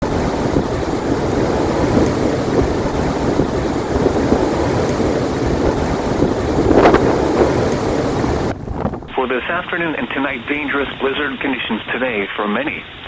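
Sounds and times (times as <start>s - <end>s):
blizzard wind blowing on microphone: 0.0s - 13.0s.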